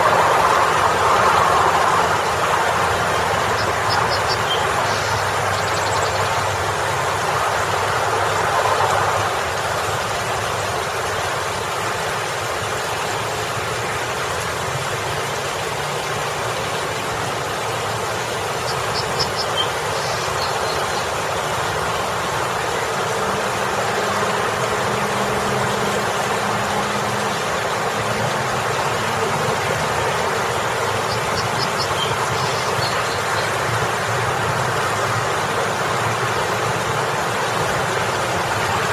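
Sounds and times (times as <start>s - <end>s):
low engine hum: 0.0s - 38.9s
road traffic: 0.0s - 38.9s
small waterfall splashing: 0.0s - 38.9s.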